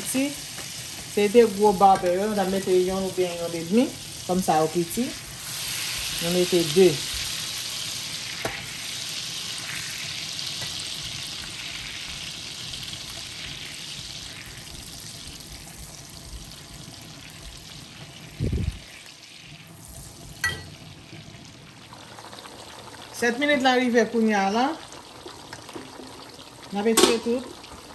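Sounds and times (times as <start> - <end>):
butter sizzling in a pot: 0.0 - 27.9.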